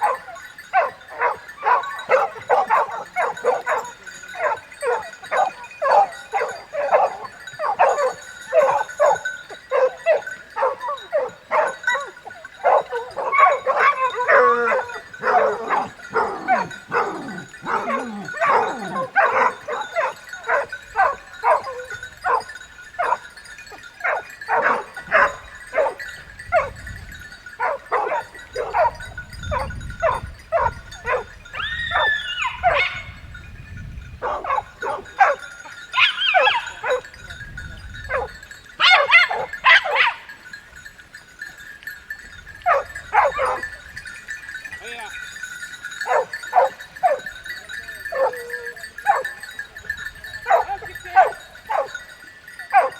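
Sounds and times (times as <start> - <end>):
dogs howling: 0.0 - 26.8, 27.4 - 33.2, 34.2 - 37.2, 38.0 - 40.3, 42.6 - 43.8, 46.0 - 52.9
dogs barking and baying: 0.0 - 33.4, 34.0 - 37.4, 38.0 - 52.9.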